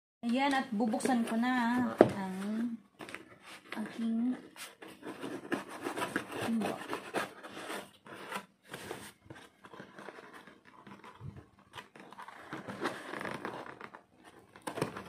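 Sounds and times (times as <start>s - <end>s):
cardboard box scraping and rustling: 1.0s - 15.0s.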